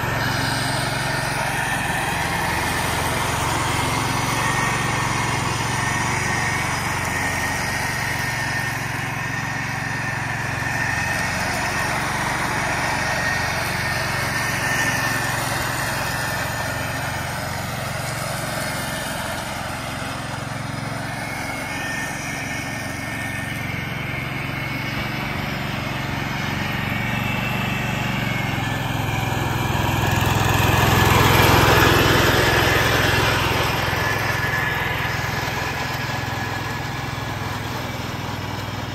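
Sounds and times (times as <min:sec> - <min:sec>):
mower blades mulching leaves: 0:00.0 - 0:38.9
tractor engine running: 0:00.0 - 0:38.9.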